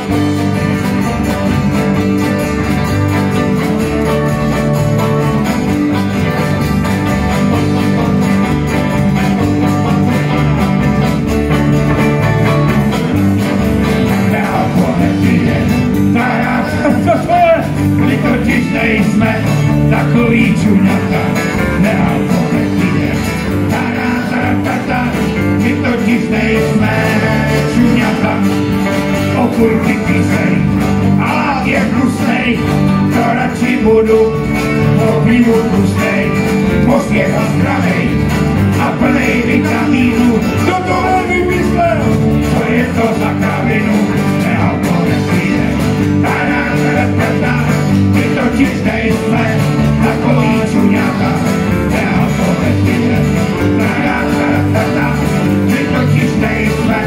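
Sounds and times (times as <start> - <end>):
banjo: 0.0 - 57.0
country band playing: 0.0 - 57.0.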